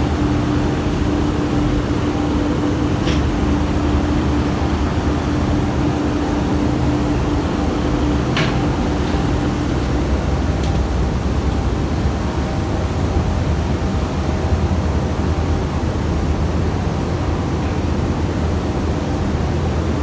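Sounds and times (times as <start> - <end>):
industrial furnace roar: 0.0 - 20.0.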